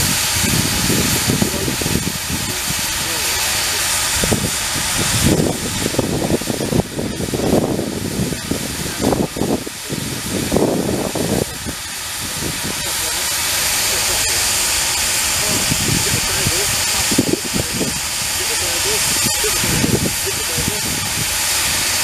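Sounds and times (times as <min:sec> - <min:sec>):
steam engine hissing: 0:00.0 - 0:22.0
uneven low rumbles: 0:00.0 - 0:22.0.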